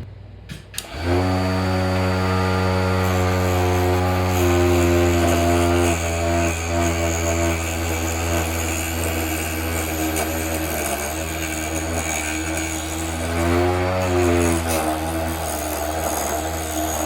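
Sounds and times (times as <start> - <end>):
wood lathe motor humming: 0.8 - 17.0.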